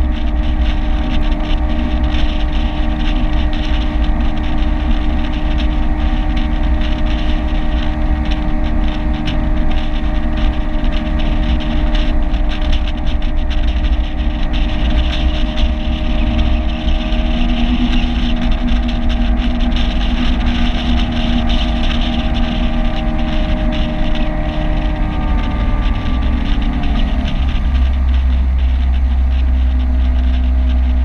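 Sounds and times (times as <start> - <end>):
outboard motor running: 0.0 - 31.0
wind buffeting microphone: 0.0 - 31.0.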